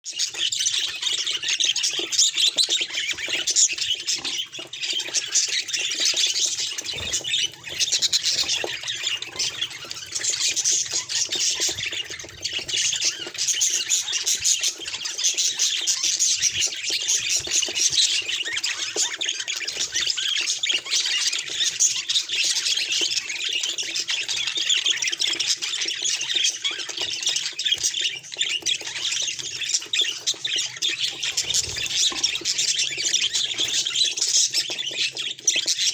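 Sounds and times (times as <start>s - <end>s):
budgerigars chattering: 0.1s - 35.9s.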